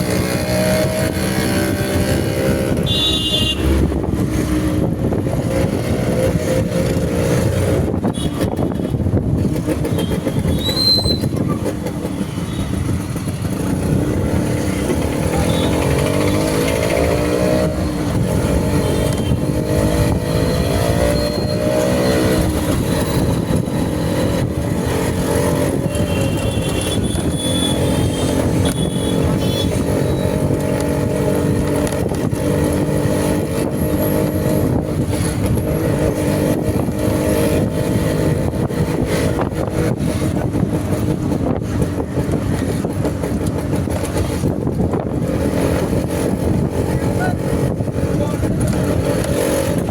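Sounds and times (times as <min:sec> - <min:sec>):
motorcycle engine revving: 0:00.0 - 0:49.9
road and wind noise: 0:00.0 - 0:49.9.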